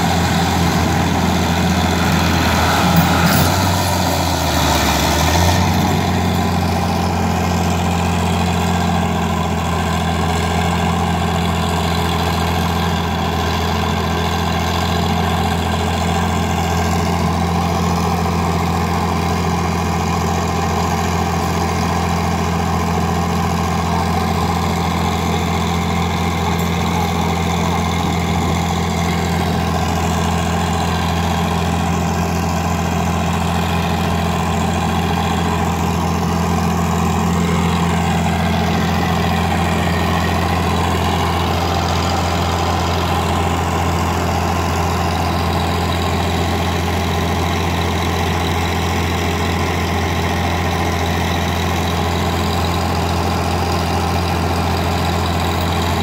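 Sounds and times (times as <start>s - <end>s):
tractor diesel engines: 0.0s - 56.0s.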